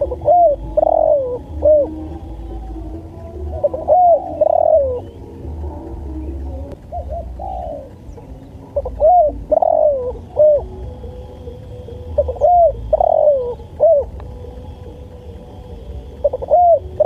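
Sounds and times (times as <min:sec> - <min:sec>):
dove cooing: 0:00.0 - 0:17.0
faint low hum: 0:00.0 - 0:17.0.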